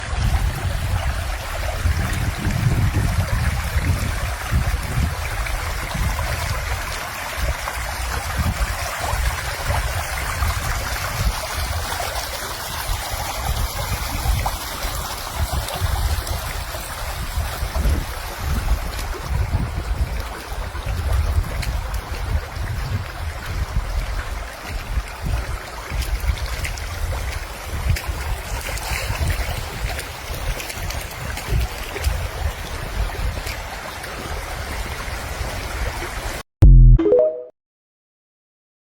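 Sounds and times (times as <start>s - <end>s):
rainwater rushing: 0.0s - 36.4s.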